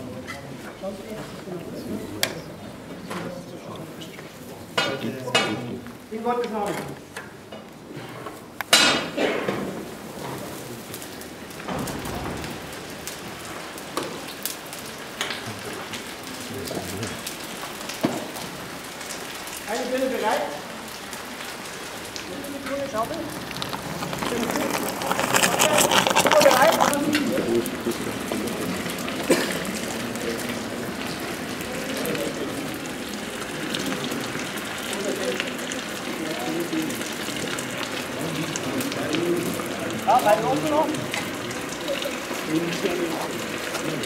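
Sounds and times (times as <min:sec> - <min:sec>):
molten metal hissing and crackling: 0:08.4 - 0:44.0.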